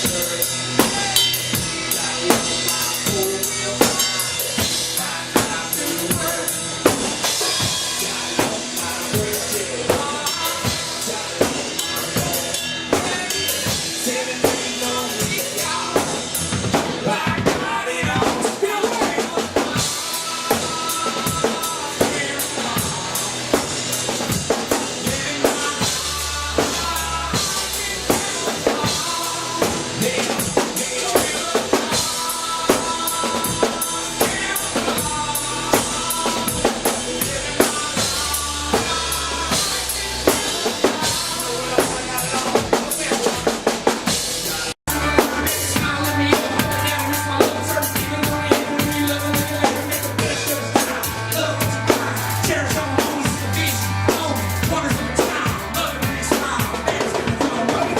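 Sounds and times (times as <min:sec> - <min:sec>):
bass line: 0:00.0 - 0:57.9
drum kit beat: 0:00.0 - 0:57.9
live band playing: 0:00.0 - 0:57.9.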